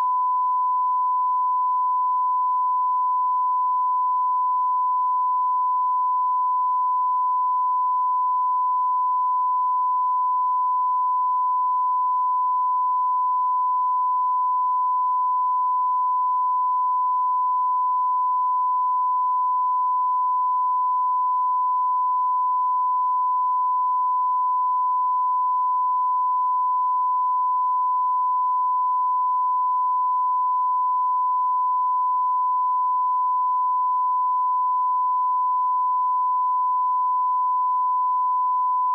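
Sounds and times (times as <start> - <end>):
steady sine test tone: 0.0 - 38.9.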